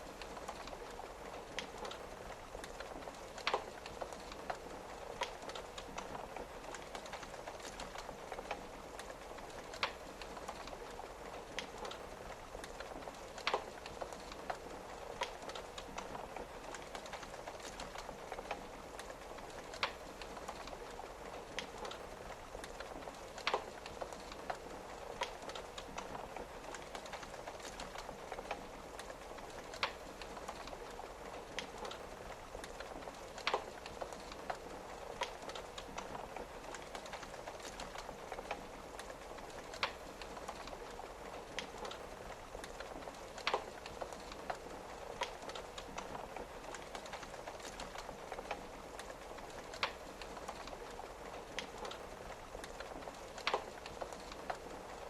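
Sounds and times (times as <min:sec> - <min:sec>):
rain pattering on a window: 0:00.0 - 0:55.0
wood fire crackling and popping: 0:00.0 - 0:55.0.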